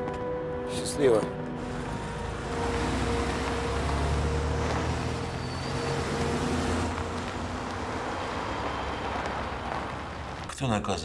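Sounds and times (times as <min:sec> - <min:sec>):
car engine humming: 0:01.4 - 0:10.5.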